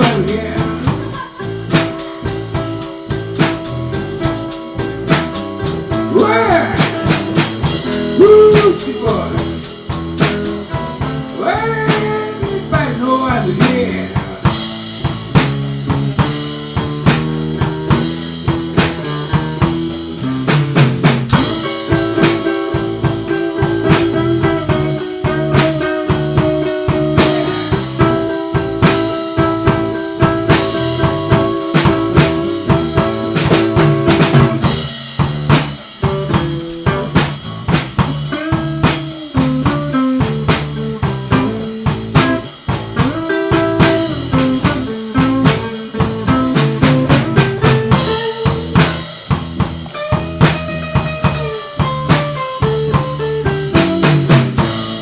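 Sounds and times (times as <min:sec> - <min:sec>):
blues band playing: 0:00.0 - 0:55.0
drum kit beat: 0:00.0 - 0:55.0
lead line with bending notes: 0:00.0 - 0:55.0.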